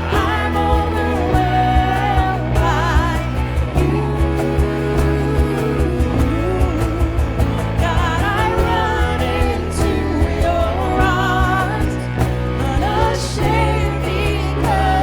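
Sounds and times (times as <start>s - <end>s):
person singing worship song: 0.0s - 15.0s.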